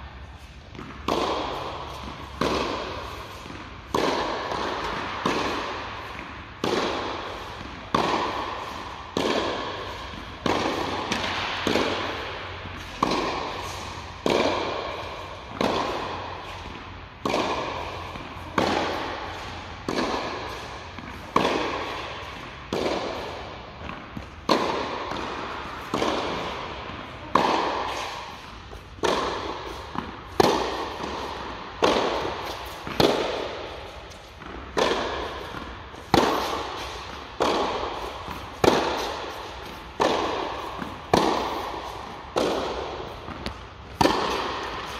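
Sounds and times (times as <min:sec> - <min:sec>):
tennis ball bouncing: 0:00.0 - 0:44.9
tennis ball hit with racket: 0:00.0 - 0:44.9.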